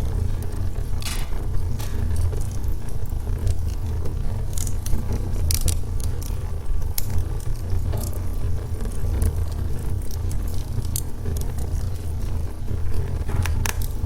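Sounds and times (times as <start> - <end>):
fire crackles and pops: 0.0 - 14.0
low rumble of flame: 0.0 - 14.0.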